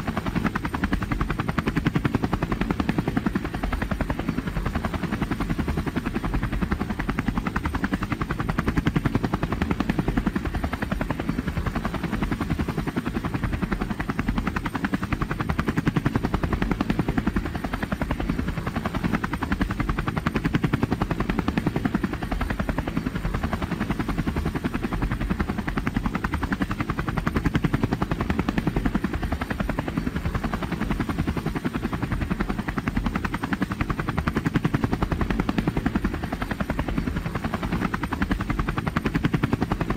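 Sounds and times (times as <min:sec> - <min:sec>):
helicopter rotor blades chopping: 0:00.0 - 0:39.9.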